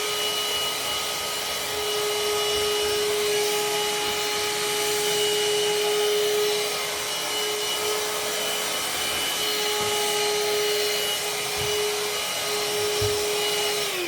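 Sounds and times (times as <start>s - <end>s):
handheld vacuum cleaner whine: 0.0s - 14.0s.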